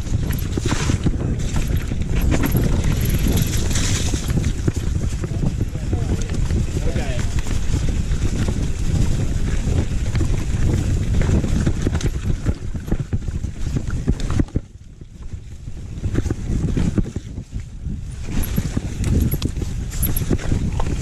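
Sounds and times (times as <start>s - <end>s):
bike rattling over bumps: 0.0s - 21.0s
wind buffeting microphone: 0.0s - 21.0s.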